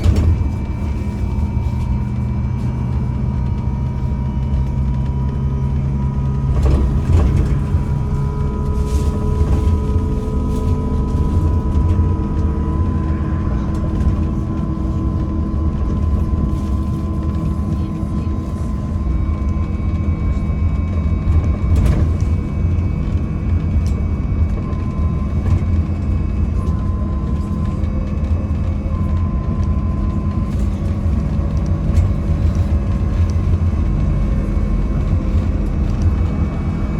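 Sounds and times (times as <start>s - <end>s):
low road rumble: 0.0s - 36.9s.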